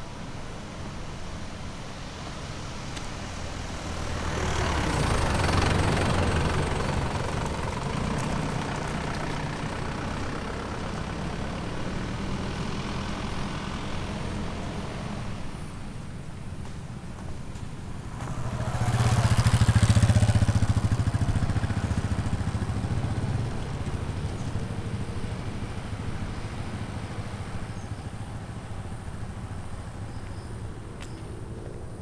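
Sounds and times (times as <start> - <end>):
vehicle engine running: 0.6 - 32.0.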